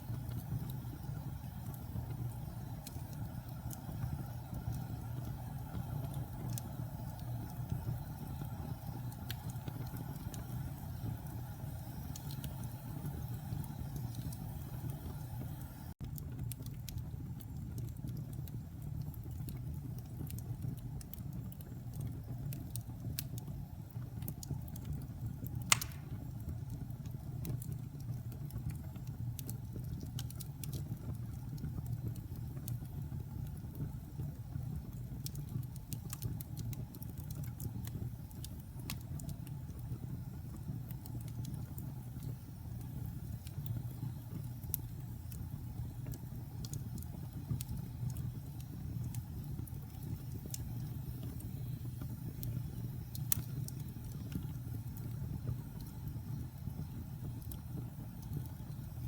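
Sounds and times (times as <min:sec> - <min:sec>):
fire popping and snapping: 0:00.0 - 0:59.0
wood fire crackling: 0:00.0 - 0:59.0.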